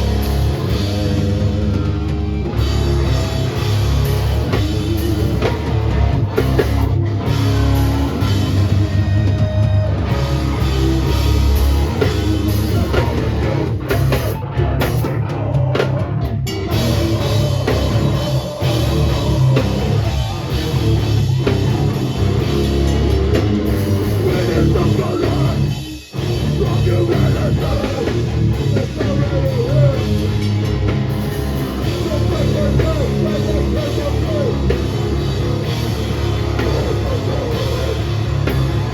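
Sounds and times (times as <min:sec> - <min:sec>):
metal band playing live: 0:00.0 - 0:38.9.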